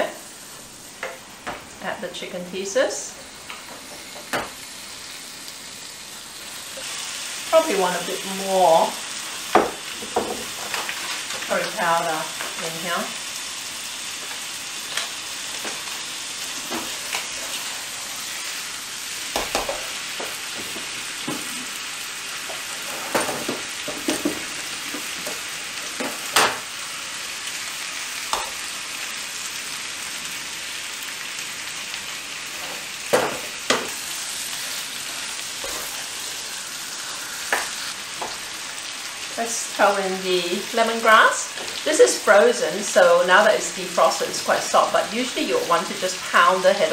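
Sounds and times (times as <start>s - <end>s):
chicken sizzling in a wok: 0.0s - 46.9s.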